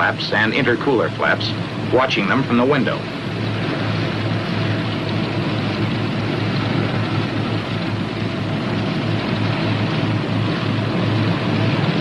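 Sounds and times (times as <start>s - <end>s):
radial aircraft engines running: 0.0s - 12.0s.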